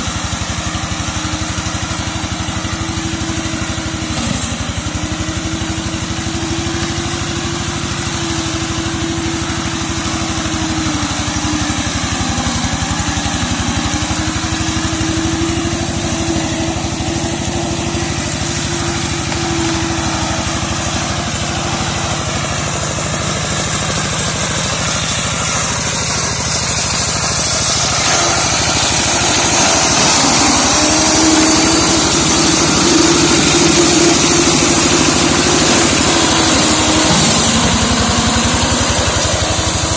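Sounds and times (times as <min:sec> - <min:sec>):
diesel hand tractor engine running: 0:00.0 - 0:39.9.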